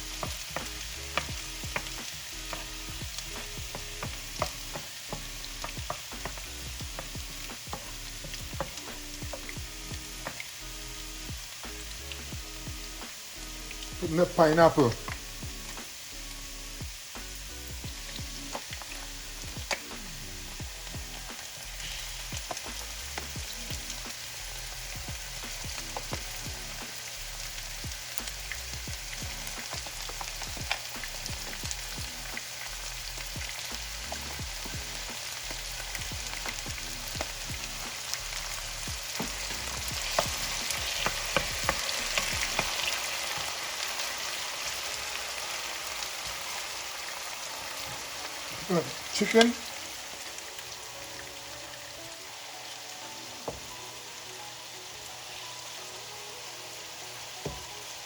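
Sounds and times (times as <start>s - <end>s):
food sizzling in a hot pan: 0.0s - 58.0s.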